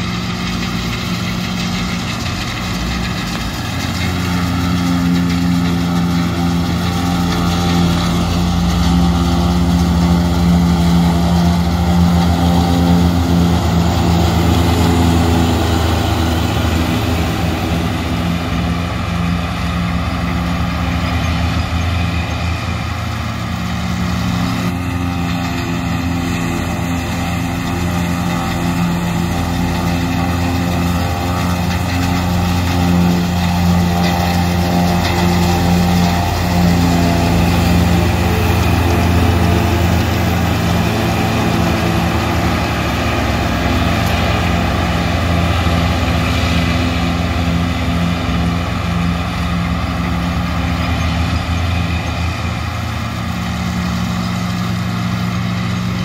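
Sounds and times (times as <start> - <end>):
forage harvester running: 0.0 - 56.0
truck engine running: 0.0 - 56.0.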